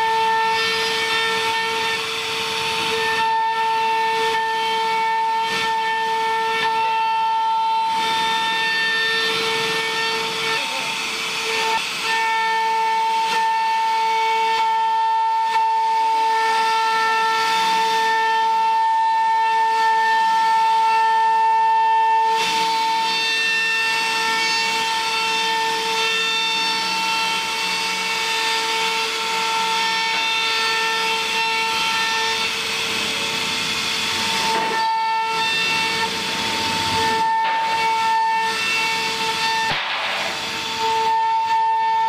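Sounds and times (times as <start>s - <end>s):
router bit cutting wood: 0.0s - 42.0s
router spindle whine: 0.0s - 42.0s.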